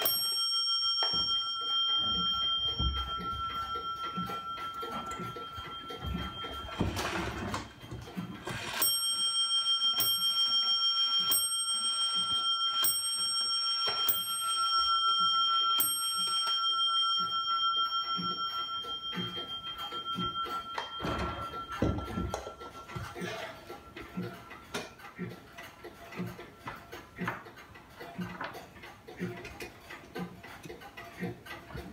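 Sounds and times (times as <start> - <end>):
clock striking bell: 0.0 - 27.7.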